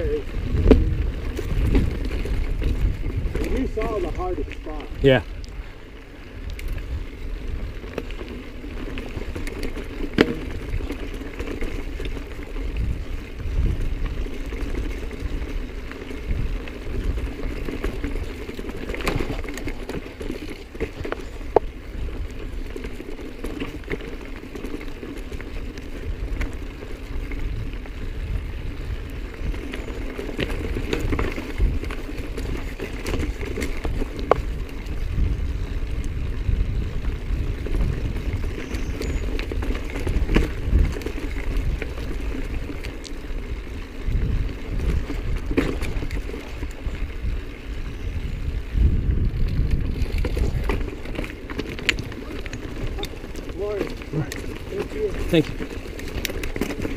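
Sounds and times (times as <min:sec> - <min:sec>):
bike knocking on rocks: 0:00.0 - 0:04.9, 0:07.8 - 0:28.1, 0:29.4 - 0:47.4, 0:49.1 - 0:56.9
bike tyres rattling over gravel: 0:00.0 - 0:56.9.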